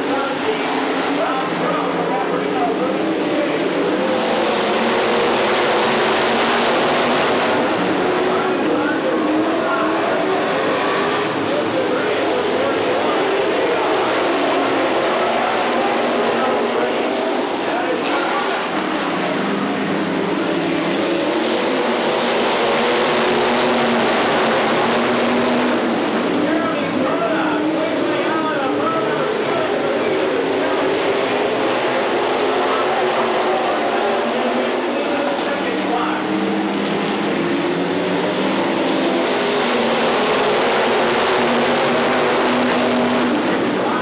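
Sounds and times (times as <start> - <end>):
race car engines roaring: 0.0 - 44.0.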